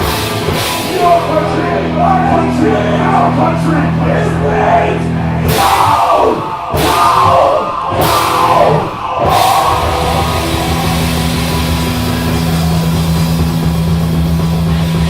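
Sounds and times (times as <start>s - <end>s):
accented band hits: 0.0s - 15.0s
heavy rock band playing: 0.0s - 15.0s.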